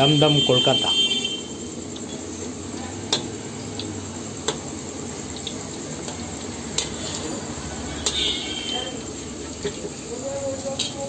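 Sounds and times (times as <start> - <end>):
food sizzling in hot oil: 1.4 - 11.0.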